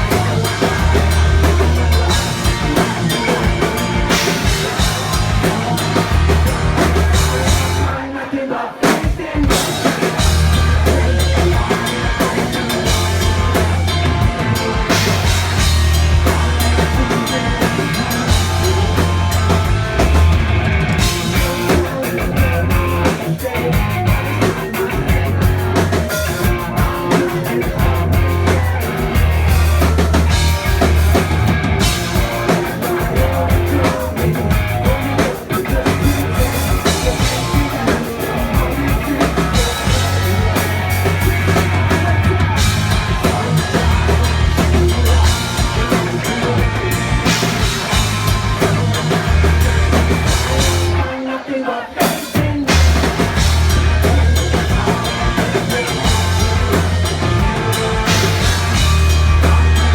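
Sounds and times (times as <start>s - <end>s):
live rock band playing: 0.0s - 8.0s, 8.8s - 59.9s
drum kit and bass beat: 0.0s - 51.3s, 51.9s - 59.9s.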